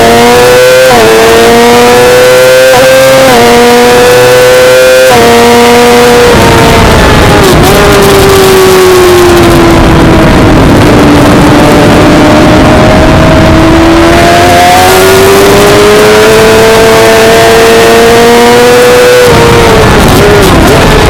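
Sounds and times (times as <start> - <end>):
motorcycle engine at high revs: 0.0 - 21.0
wind noise rushing: 0.1 - 21.0.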